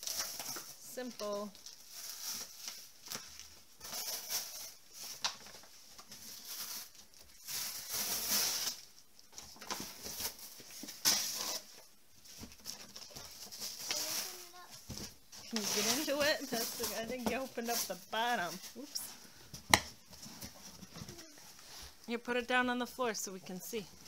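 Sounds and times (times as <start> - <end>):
packaging rustling and crackling: 0.0 - 22.1.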